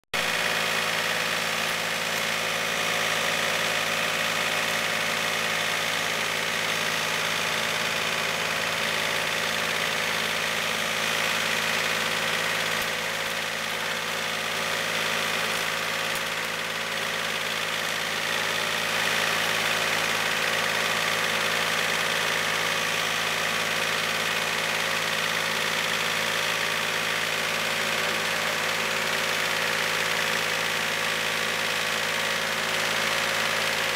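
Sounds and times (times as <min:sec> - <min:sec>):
tractor engine running steadily: 0:00.1 - 0:33.9.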